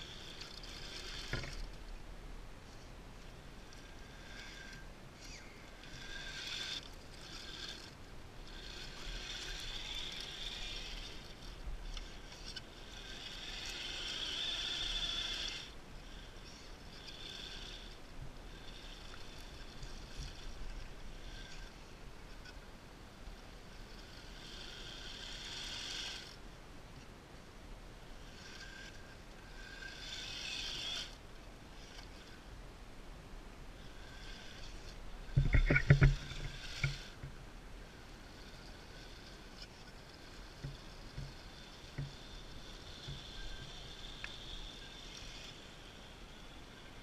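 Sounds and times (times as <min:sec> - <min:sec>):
electric motor and gearbox whining: 0:00.0 - 0:27.2, 0:27.9 - 0:32.6, 0:33.6 - 0:47.0.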